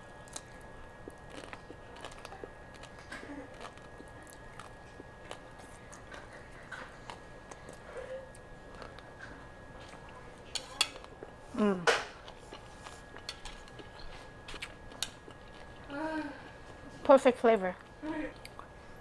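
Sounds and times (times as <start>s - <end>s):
person chewing crunchy noodles: 0.2s - 11.5s, 12.1s - 16.8s.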